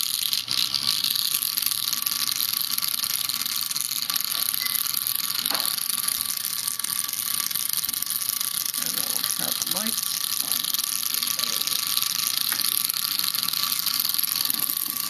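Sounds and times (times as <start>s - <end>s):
vibration motor buzzing: 0.0s - 15.0s.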